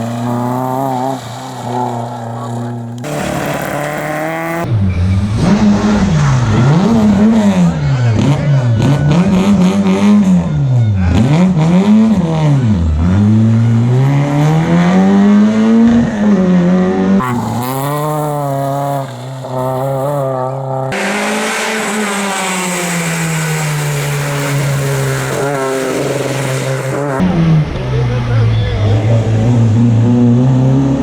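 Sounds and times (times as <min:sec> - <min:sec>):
rally car engines revving: 0:00.0 - 0:31.0.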